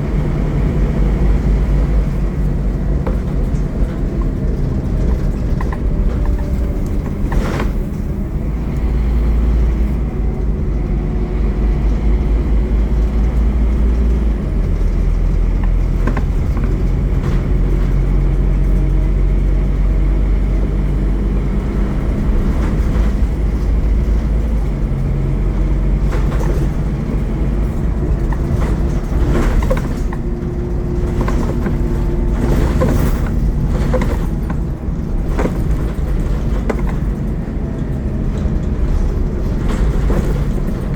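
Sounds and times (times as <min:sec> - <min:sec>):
diesel bus engine running: 0:00.0 - 0:40.9
sharp rattles and knocks: 0:00.2 - 0:10.9, 0:11.6 - 0:40.9.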